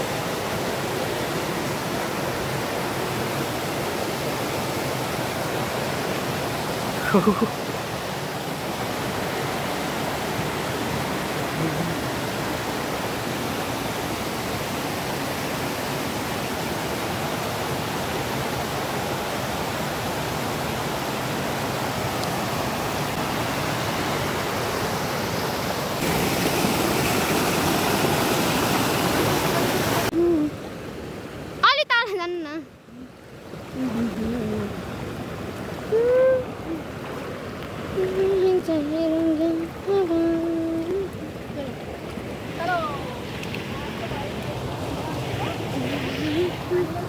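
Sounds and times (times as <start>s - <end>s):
river water rushing: 0.0s - 47.0s.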